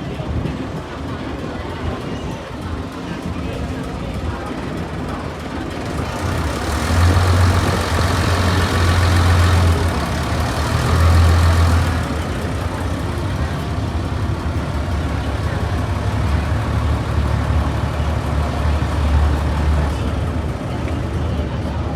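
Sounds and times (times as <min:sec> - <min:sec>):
boat engine humming: 0:00.0 - 0:21.9.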